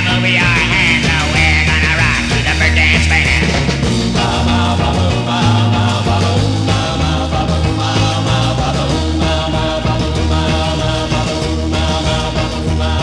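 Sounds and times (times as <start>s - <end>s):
instrumental rock and roll band: 0.0s - 13.0s
prominent bass line: 0.0s - 13.0s.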